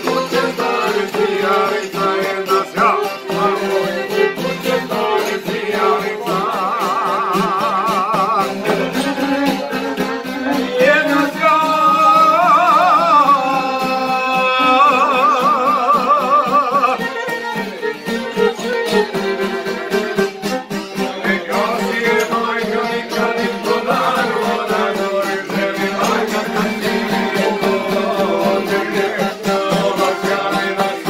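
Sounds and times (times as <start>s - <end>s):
men singing folk song: 0.0s - 17.4s, 20.9s - 31.0s
guitars: 0.0s - 31.0s
violin: 0.0s - 31.0s.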